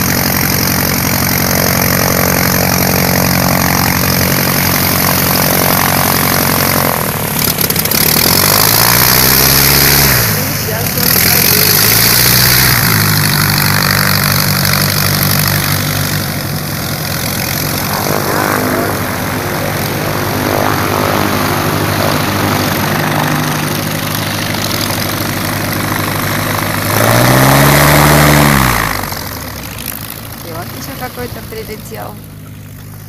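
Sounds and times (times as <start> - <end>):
propeller aircraft engines running: 0.0 - 33.0.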